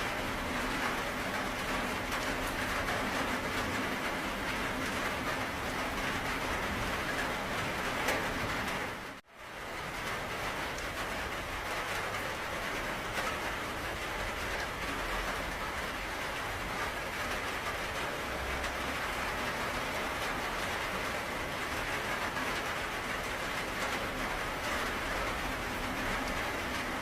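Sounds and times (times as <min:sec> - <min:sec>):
raindrop ticks: 0:00.0 - 0:27.0
steady rain hissing: 0:00.0 - 0:27.0.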